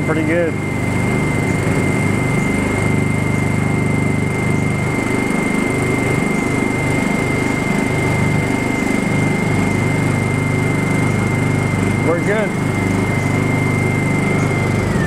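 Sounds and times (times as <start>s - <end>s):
generators idling: 0.0s - 15.0s
thin high whine: 0.0s - 15.0s.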